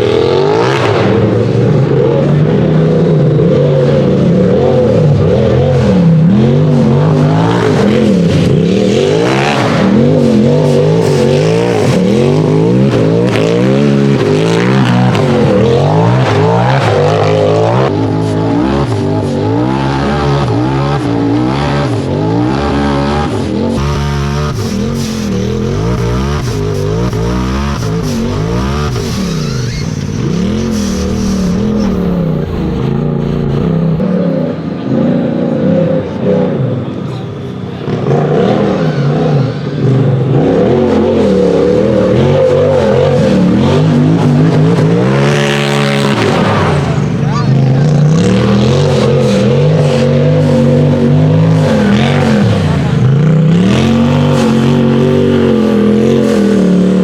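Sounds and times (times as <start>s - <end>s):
buggy engine revving hard: 0.0s - 57.0s.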